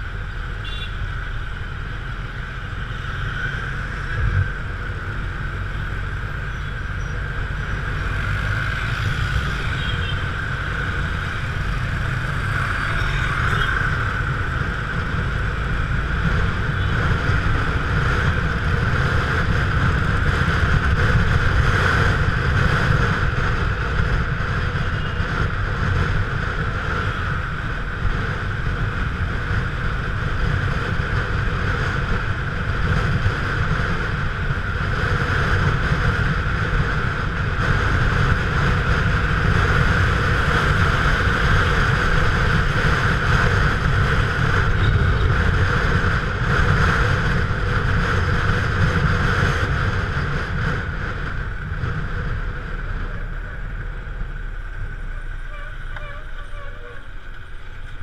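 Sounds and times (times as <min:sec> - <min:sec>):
motorcycle engine: 0:00.0 - 0:58.0
road noise: 0:00.0 - 0:58.0.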